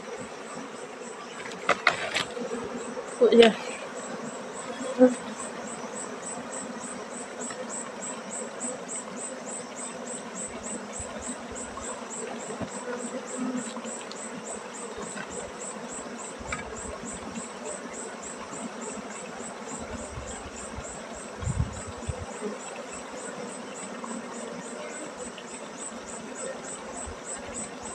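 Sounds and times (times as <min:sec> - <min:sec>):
bees buzzing: 0:00.0 - 0:27.9
high insect chirp: 0:00.0 - 0:27.9.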